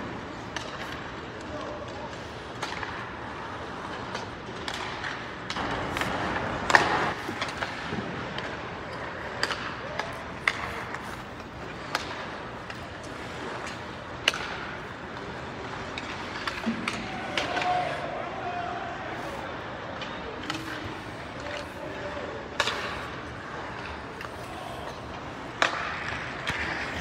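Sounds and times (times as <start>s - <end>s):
skate blades scraping ice: 0.0s - 18.3s, 19.0s - 27.0s
pucks cracking off sticks: 0.0s - 27.0s
steady arena hum: 0.0s - 27.0s.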